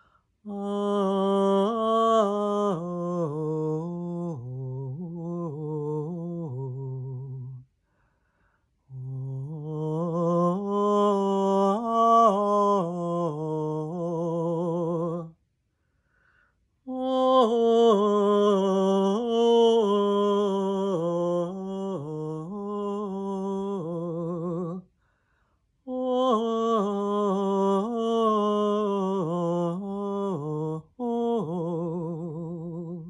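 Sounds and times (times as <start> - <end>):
woman singing wordlessly: 0.0 - 7.6, 8.9 - 15.4, 16.8 - 24.9, 25.8 - 33.0.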